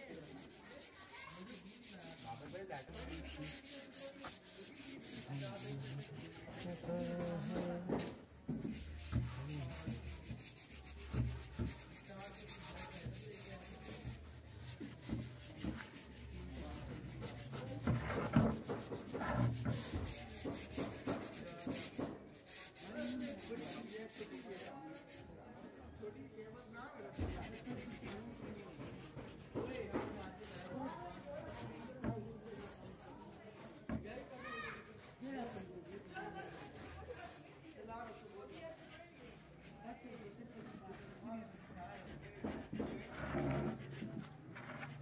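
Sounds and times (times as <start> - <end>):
cloth rubbing on wood: 0.0 - 26.0, 27.1 - 45.0.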